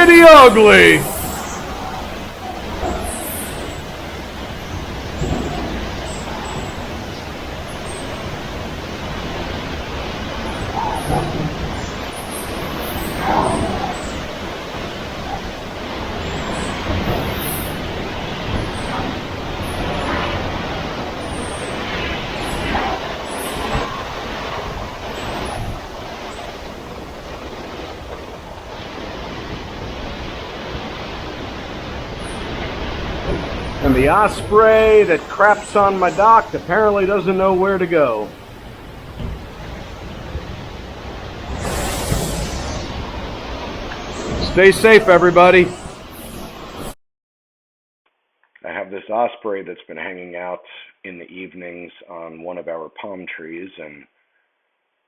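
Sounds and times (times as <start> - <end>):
strong wind blowing: 0.0 - 47.0.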